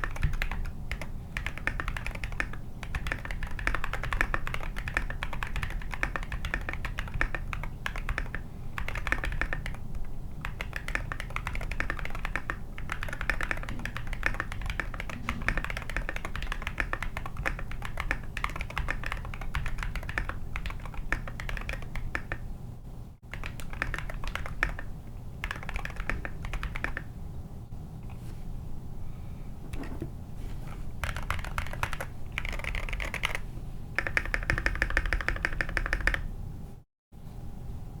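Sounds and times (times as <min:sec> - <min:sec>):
fast mechanical keyboard typing: 0:00.0 - 0:22.4, 0:23.3 - 0:27.1, 0:30.7 - 0:36.3.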